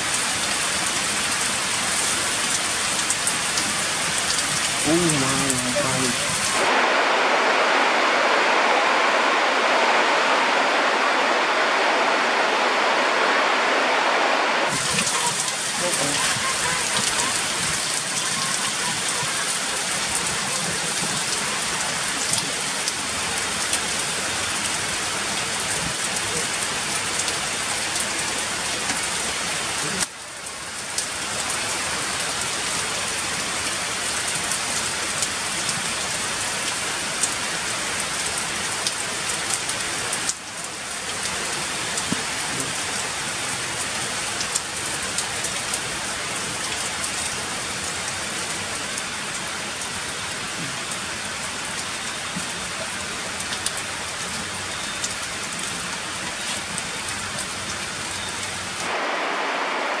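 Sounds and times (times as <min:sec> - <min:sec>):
heavy rain on stone paving: 0:00.0 - 1:00.0.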